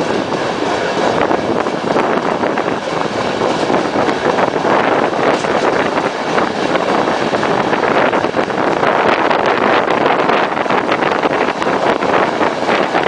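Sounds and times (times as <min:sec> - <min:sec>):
train wheels rolling on track: 0:00.0 - 0:13.0
wind rushing over microphone: 0:00.0 - 0:13.0.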